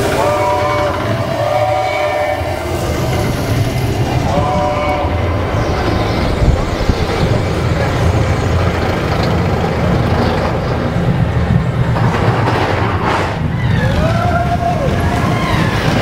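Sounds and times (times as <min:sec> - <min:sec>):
roller coaster wheels rumbling: 0:00.0 - 0:16.0.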